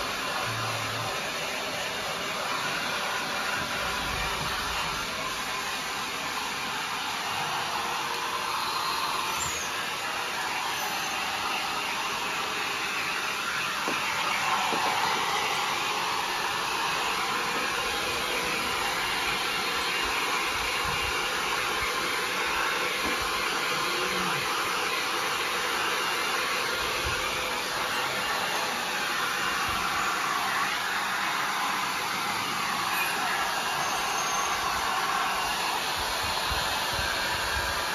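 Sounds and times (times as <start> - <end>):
hair dryer blowing: 0.0 - 37.9.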